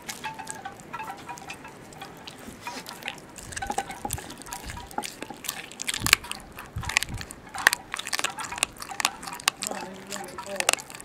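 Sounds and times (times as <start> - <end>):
puppy chewing bone: 0.0 - 11.0.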